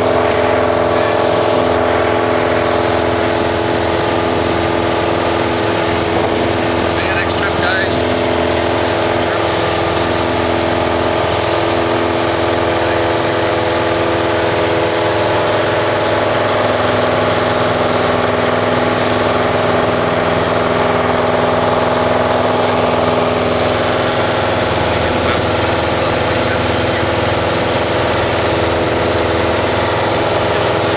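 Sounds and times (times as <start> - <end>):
propeller plane engine in cabin: 0.0 - 30.9.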